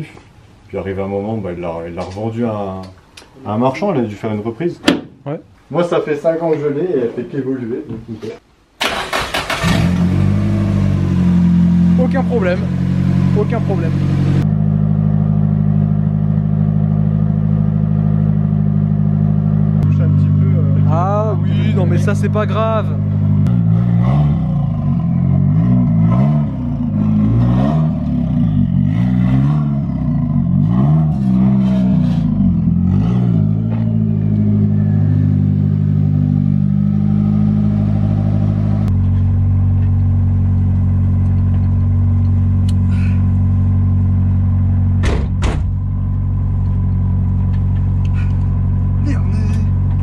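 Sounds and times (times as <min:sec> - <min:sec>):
car engine revving and idling: 0:09.4 - 0:50.0.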